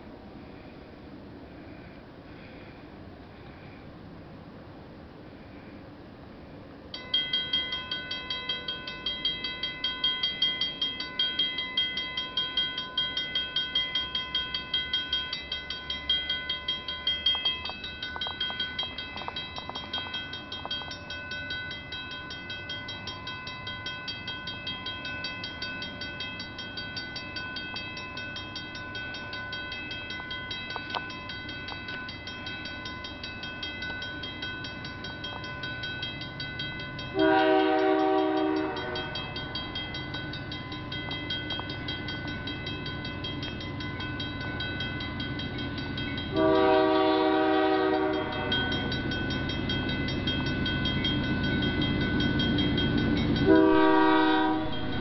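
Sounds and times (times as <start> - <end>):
level crossing warning bell: 6.8 - 55.0.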